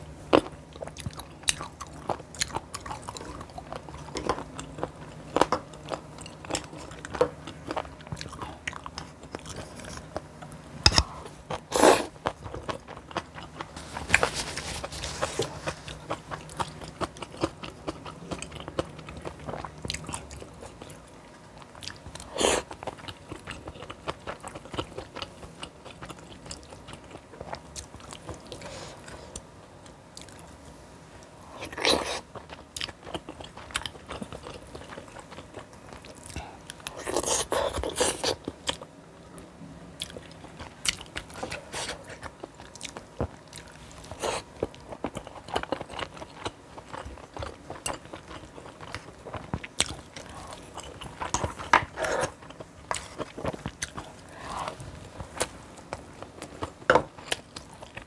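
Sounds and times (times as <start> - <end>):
person chewing and crunching food: 0.0 - 30.6, 31.4 - 58.0.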